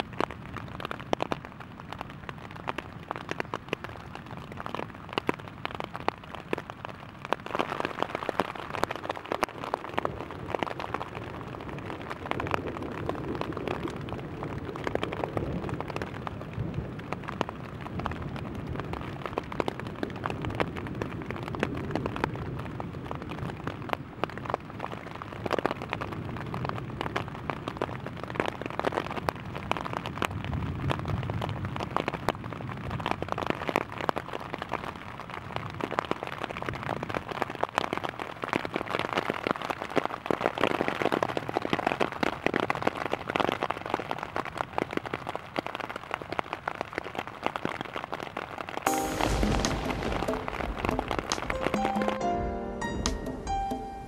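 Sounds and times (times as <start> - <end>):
rain pattering on tent fabric: 0.0 - 53.8.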